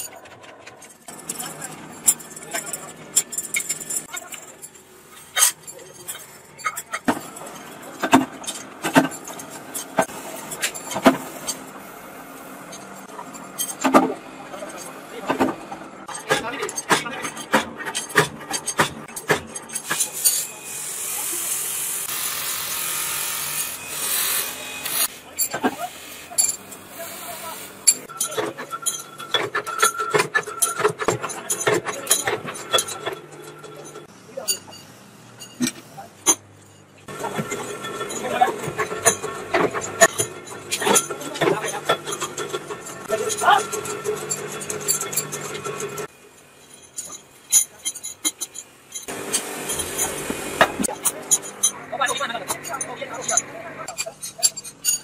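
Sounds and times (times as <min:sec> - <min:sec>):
metal parts clinking: 0:00.0 - 0:15.0, 0:16.0 - 0:20.6, 0:23.6 - 0:27.0, 0:27.6 - 0:55.0
workshop machinery hum: 0:00.0 - 0:55.0.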